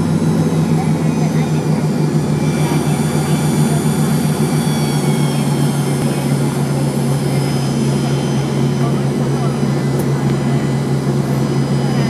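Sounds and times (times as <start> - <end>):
jet engines humming and whining: 0.0 - 12.0
rushing noise of plane rolling: 0.0 - 12.0.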